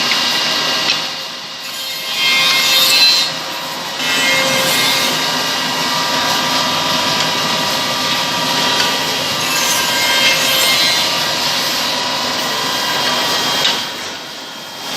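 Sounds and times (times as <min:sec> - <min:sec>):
cutters machining wood: 0:00.0 - 0:14.9.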